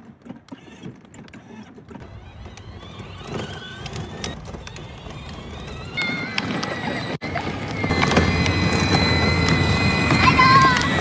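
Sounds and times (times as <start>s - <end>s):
wheels rolling rumble: 0.0s - 11.0s
electric motors whining: 0.5s - 11.0s.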